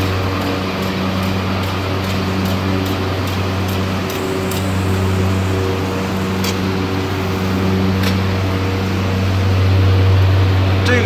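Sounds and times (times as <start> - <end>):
machine humming and rushing: 0.0 - 11.0.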